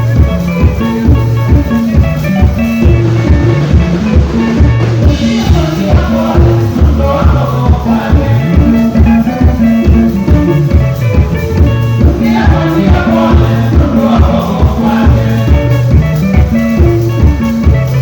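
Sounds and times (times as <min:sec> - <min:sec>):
guitar or keyboard notes: 0:00.0 - 0:18.0
steady drum beat: 0:00.0 - 0:18.0
stepping bass line: 0:00.0 - 0:18.0.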